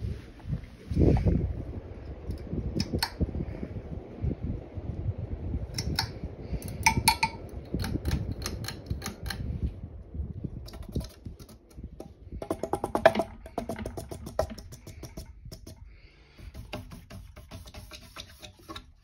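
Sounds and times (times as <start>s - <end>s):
ceiling fan wobbling and rattling: 0.0s - 19.0s.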